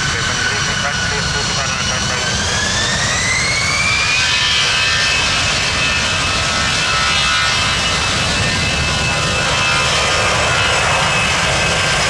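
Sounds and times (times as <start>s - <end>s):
jet engines spooling up: 0.0s - 12.0s.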